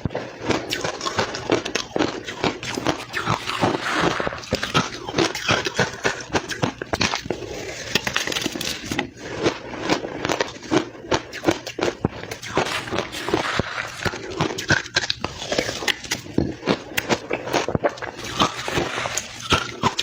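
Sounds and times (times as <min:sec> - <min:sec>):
crushed ice being chewed: 0:00.0 - 0:20.0.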